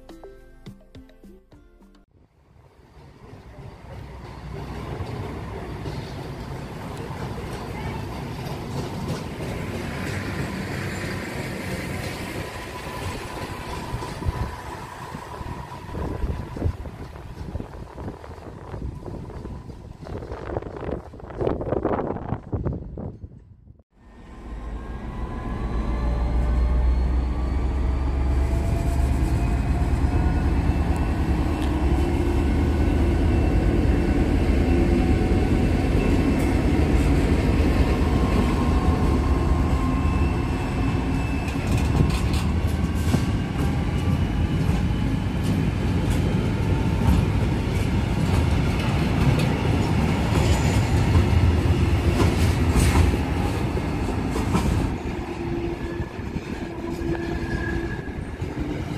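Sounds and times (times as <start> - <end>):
freight train rolling by: 2.2 - 23.4, 24.0 - 58.9
diesel locomotive engine drone: 2.2 - 58.9.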